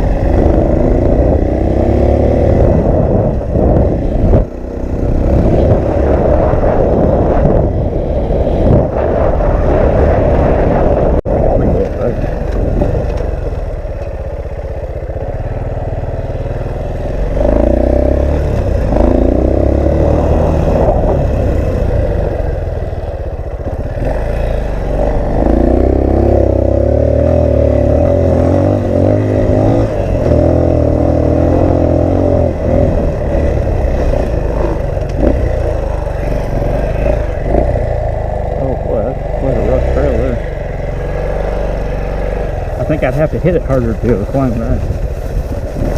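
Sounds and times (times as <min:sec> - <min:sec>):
off-road vehicle engine revving: 0:00.0 - 0:13.9, 0:15.5 - 0:44.9
wind buffeting microphone: 0:00.0 - 0:45.9.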